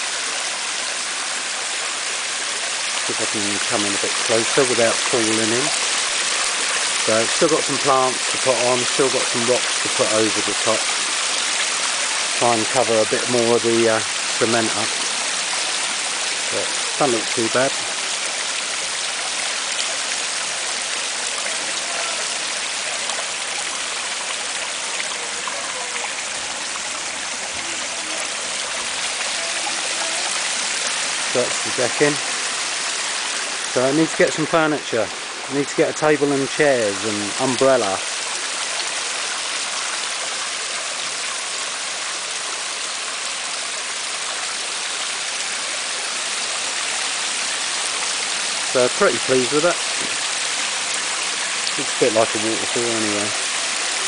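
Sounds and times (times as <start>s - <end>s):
water splashing over rocks: 0.0s - 54.0s.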